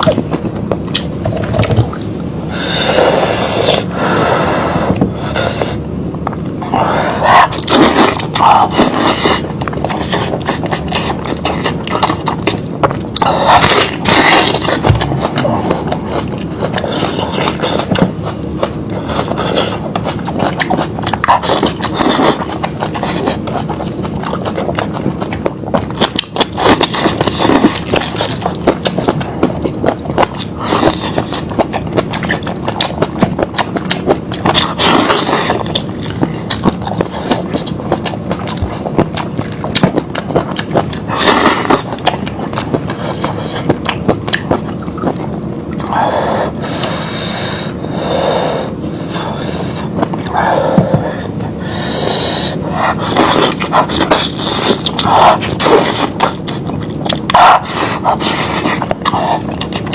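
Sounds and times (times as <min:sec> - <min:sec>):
wet chewing and lip-smacking: 0:00.0 - 0:04.0, 0:04.8 - 0:59.9
bites and slurps: 0:00.0 - 0:59.9.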